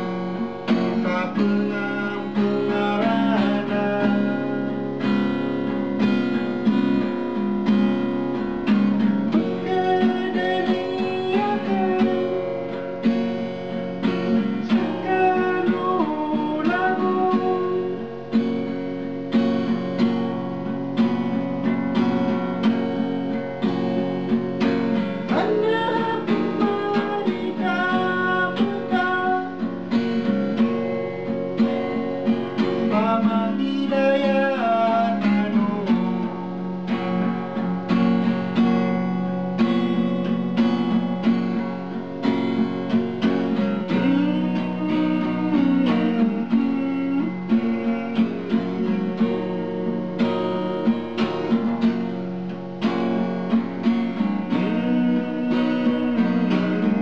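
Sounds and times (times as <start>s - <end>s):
acoustic guitar strumming: 0.0s - 57.0s
bending guitar melody: 0.0s - 57.0s.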